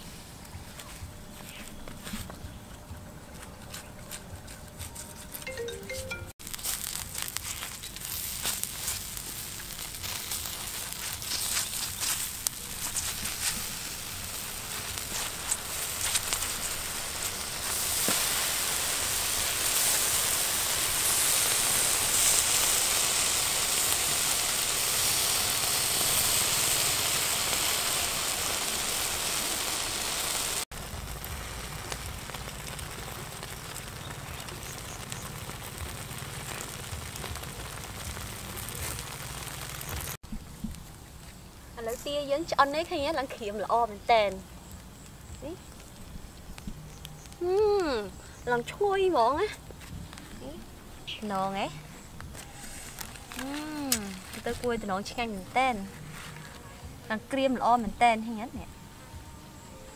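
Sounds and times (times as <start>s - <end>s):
steady high hiss: 0.0s - 2.5s, 4.7s - 59.9s
charcoal embers crackling: 0.0s - 59.9s
meat sizzling: 5.2s - 56.6s.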